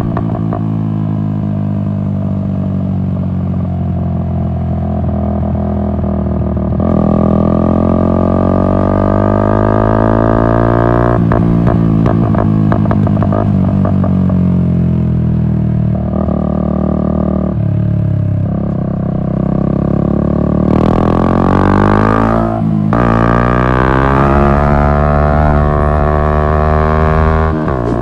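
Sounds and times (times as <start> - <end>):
motorcycle engine droning: 0.0 - 28.0.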